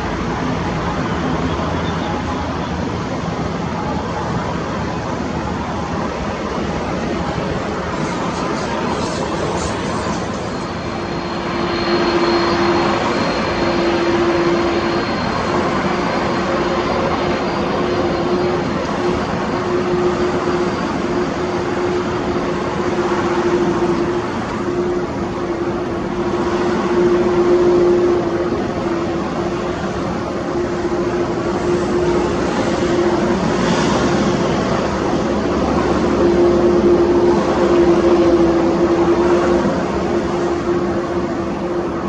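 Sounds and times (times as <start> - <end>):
jet engines droning: 0.0 - 42.0.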